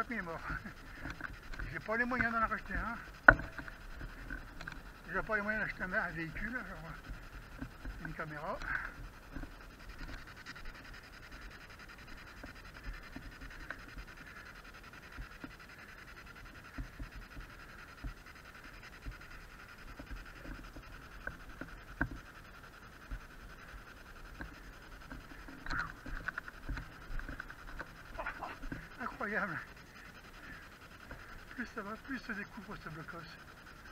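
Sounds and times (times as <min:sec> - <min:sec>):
faint steady hiss: 0:00.0 - 0:33.9.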